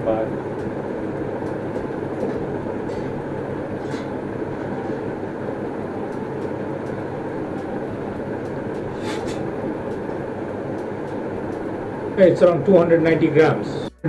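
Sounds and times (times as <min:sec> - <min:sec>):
fan running: 0:00.0 - 0:14.0.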